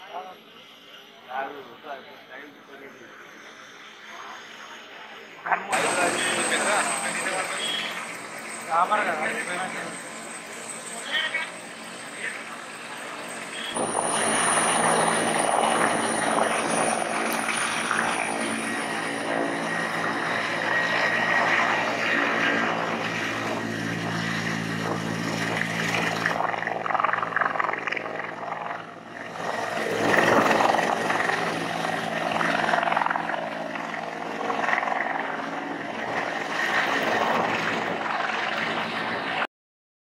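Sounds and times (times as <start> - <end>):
helicopter engine and rotor: 0.0 - 39.5.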